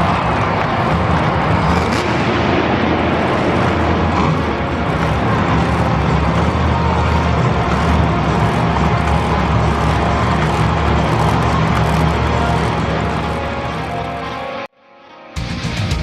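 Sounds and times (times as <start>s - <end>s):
monster truck engine running: 0.0s - 14.7s.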